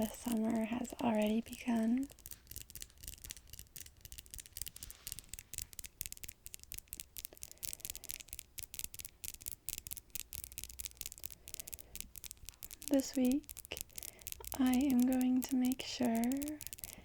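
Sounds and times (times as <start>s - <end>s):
fingernails tapping and scratching: 0.0s - 17.0s.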